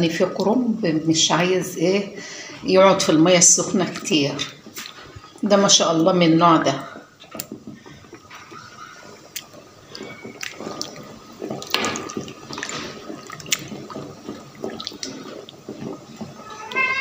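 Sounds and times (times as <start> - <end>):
water sloshing and bubbling: 0.0 - 17.0.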